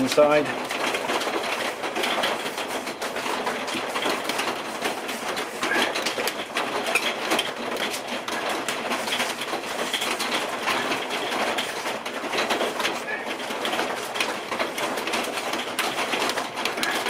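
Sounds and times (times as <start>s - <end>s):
paper towel scrubbing wood: 0.0s - 17.0s.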